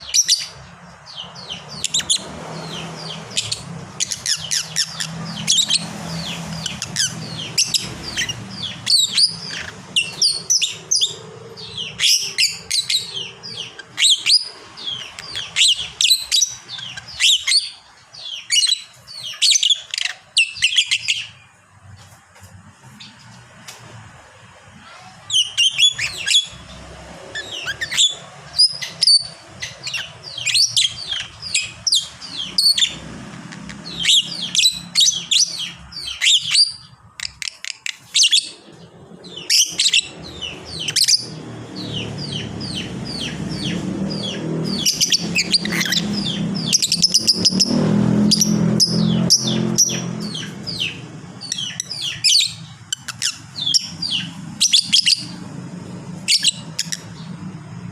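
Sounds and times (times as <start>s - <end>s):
lovebird chattering: 0.0s - 21.4s, 24.9s - 55.5s, 56.2s - 57.3s.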